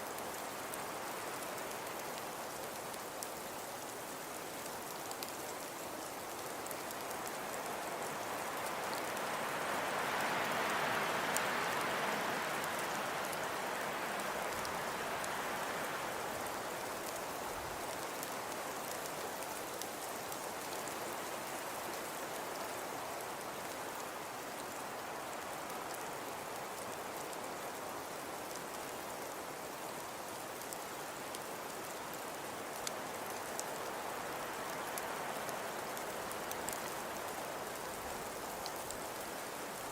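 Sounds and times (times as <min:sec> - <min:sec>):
hiss of falling snow: 0:00.0 - 0:39.9.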